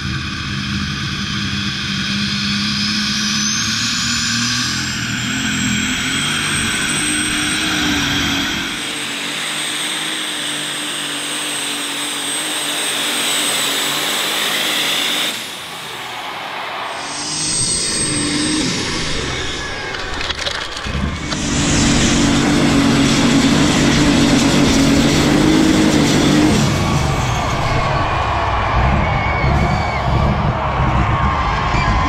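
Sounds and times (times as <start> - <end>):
high whine: 0.0 - 12.7, 15.6 - 32.0
tractor engine running hard: 0.0 - 32.0.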